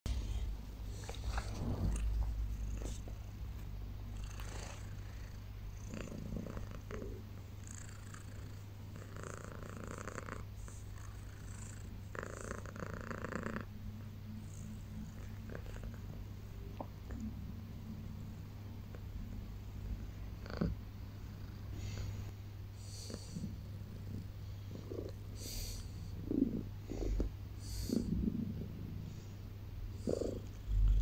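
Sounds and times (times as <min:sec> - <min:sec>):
cat purring: 0:00.1 - 0:31.0.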